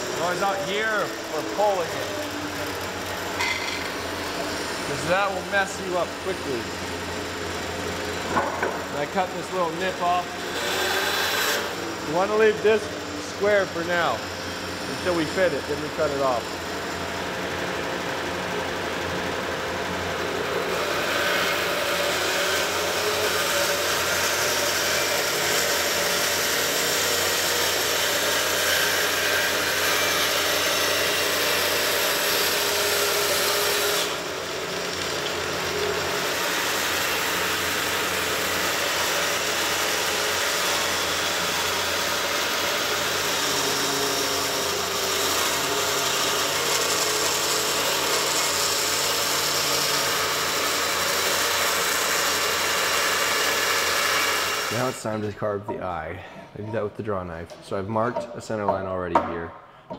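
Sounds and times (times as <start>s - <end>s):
band saw motor hum: 0.0s - 55.6s.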